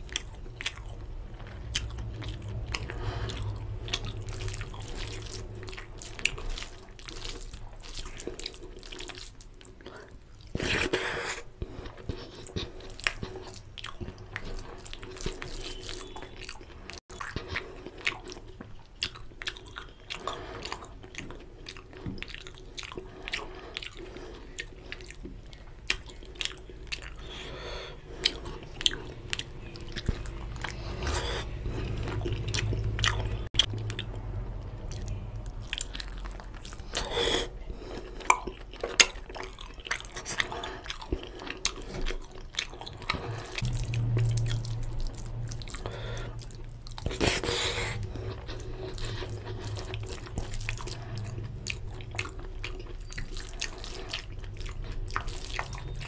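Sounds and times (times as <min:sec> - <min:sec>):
close chewing and wet mouth sounds: 0:00.0 - 0:56.0.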